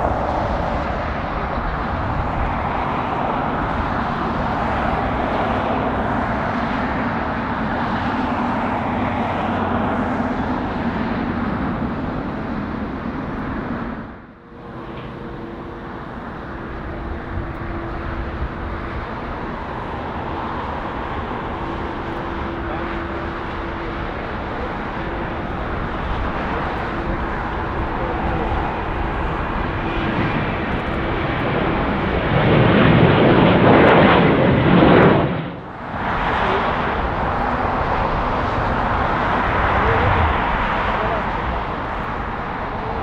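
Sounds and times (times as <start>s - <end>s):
airliner jet engine taxiing: 0.0s - 43.0s
airport jet noise: 0.0s - 43.0s.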